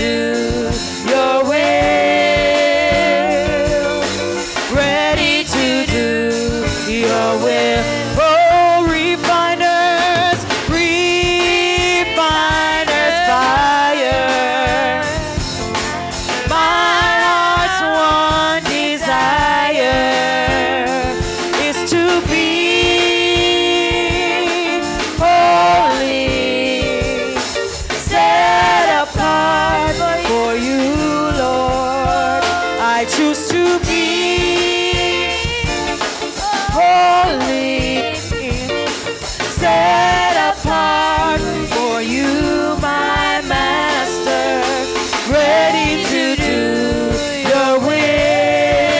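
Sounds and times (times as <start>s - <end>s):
drum kit and band: 0.0s - 48.9s
women singing gospel: 0.0s - 48.9s.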